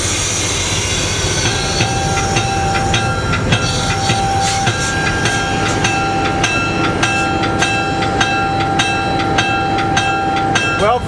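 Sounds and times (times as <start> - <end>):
diesel locomotive running: 0.0 - 11.0
bell ringing: 1.1 - 11.0.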